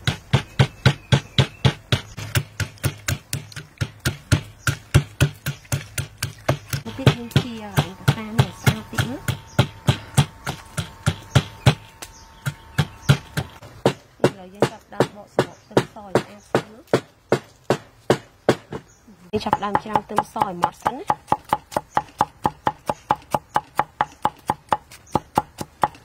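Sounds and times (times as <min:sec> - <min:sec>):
wooden pestle pounding in mortar: 0:00.0 - 0:18.8, 0:19.4 - 0:26.0.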